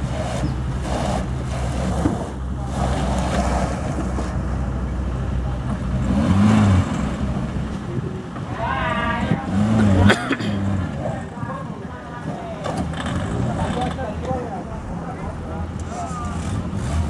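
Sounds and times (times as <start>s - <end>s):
pickup truck engine humming: 0.0s - 17.0s.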